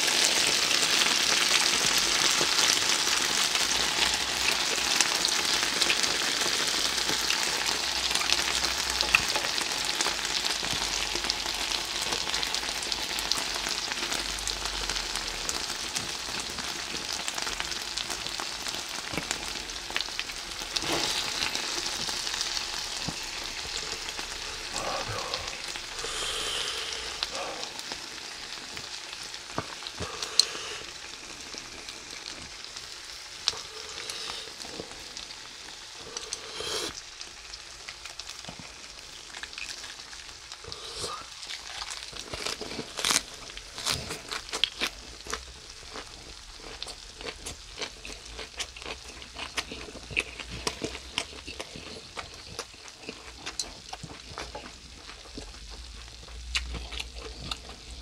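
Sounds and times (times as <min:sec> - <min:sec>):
meat sizzling on a grill plate: 0:00.0 - 0:48.8.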